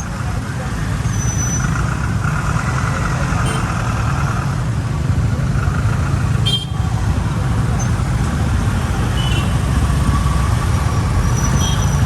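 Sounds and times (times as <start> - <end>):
large vehicle engine rumbling: 0.0 - 12.0.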